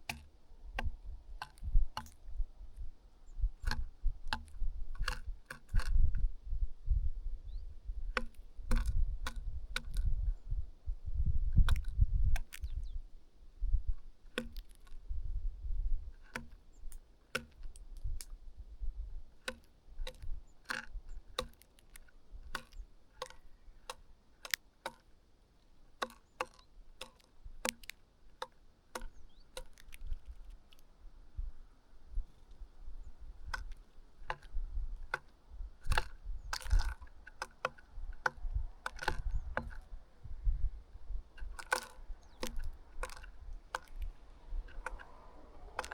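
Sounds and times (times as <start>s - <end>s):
birds pecking taps and clicks: 0.0s - 6.3s, 7.5s - 10.5s, 11.5s - 13.1s, 13.9s - 15.1s, 16.0s - 31.0s, 32.0s - 45.9s.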